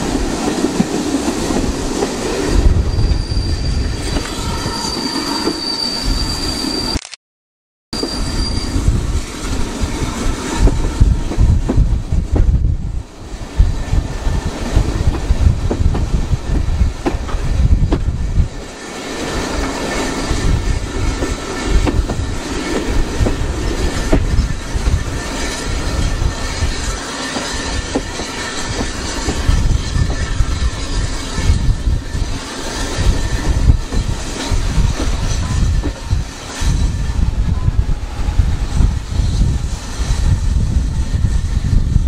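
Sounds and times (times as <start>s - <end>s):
train running rumble: 0.0s - 5.6s, 8.0s - 42.0s.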